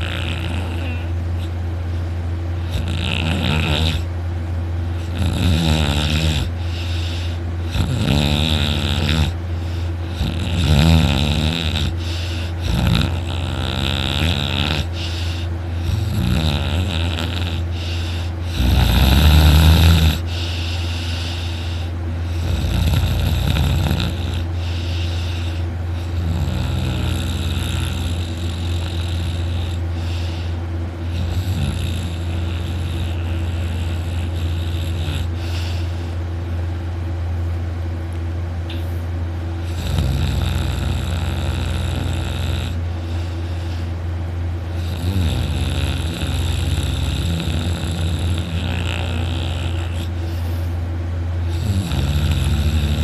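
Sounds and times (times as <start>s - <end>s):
man snoring loudly: 0.0s - 1.6s, 2.6s - 4.1s, 4.9s - 36.0s, 39.6s - 43.9s, 44.7s - 50.7s, 51.4s - 53.0s
steady low hum: 0.0s - 53.0s.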